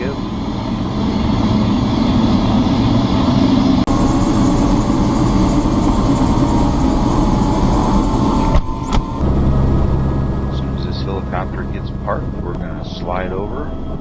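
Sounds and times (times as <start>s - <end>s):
helicopter engine and rotor: 0.0s - 14.0s
high whine: 0.0s - 14.0s.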